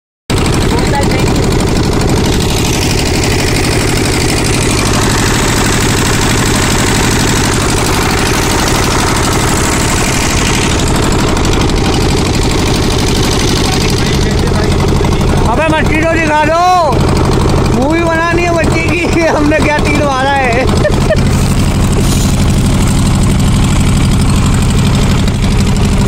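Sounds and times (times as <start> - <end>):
boat engine running: 0.3 - 26.0.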